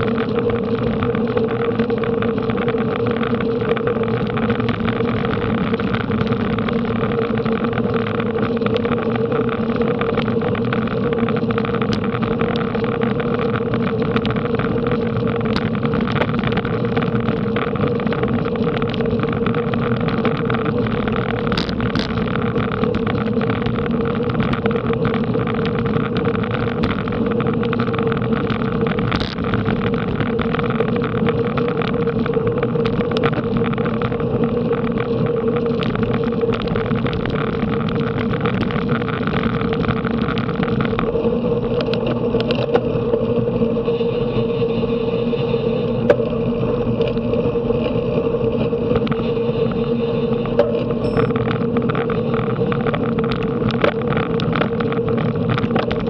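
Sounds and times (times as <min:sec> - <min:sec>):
small clicks and rattles: 0:00.0 - 0:43.0, 0:50.5 - 0:56.0
bicycle road noise: 0:00.0 - 0:56.0.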